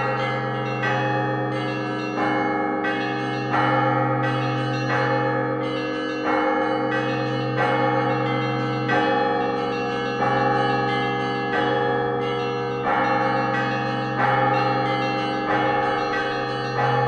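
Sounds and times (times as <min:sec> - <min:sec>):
bright church bell strikes: 0:00.0 - 0:17.0
low bell ringing: 0:00.0 - 0:17.0.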